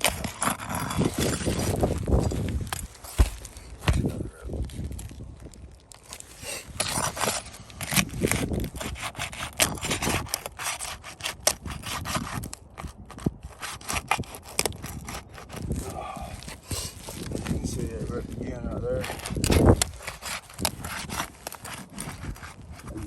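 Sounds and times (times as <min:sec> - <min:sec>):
roof shingle scraping: 0:00.0 - 0:23.0
shingle tearing: 0:00.0 - 0:23.0.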